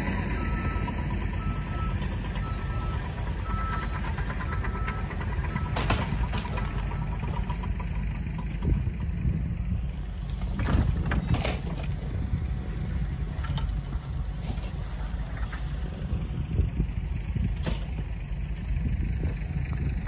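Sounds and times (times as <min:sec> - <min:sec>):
heavy machine engine rumbling: 0:00.0 - 0:20.0.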